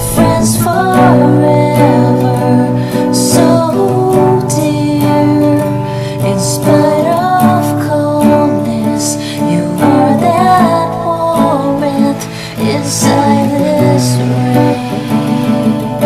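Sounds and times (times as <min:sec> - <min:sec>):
guitar: 0:00.0 - 0:16.0
person singing: 0:00.0 - 0:16.0.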